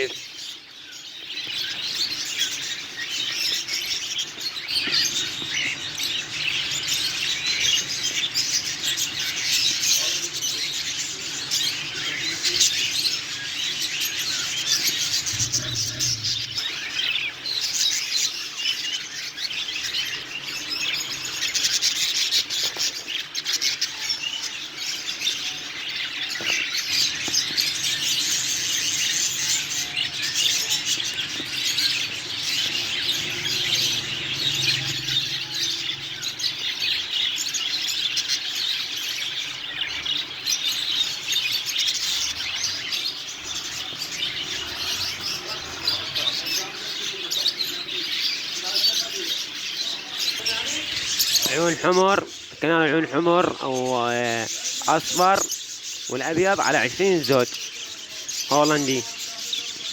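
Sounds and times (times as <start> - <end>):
caged birds twittering: 0.0 - 59.9.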